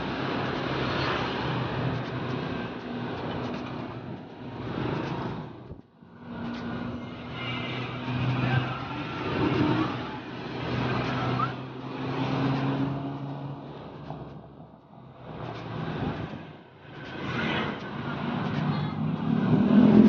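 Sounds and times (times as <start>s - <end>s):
motorbike traffic: 0.0s - 20.0s
road noise: 0.0s - 20.0s
vehicle engine droning: 0.0s - 20.0s.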